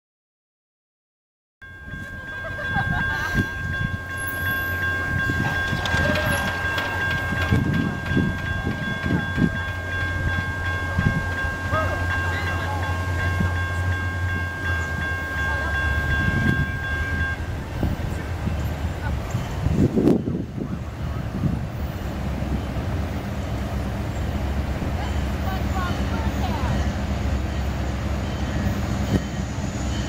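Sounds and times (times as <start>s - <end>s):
railroad crossing bell ringing: 1.6s - 30.0s.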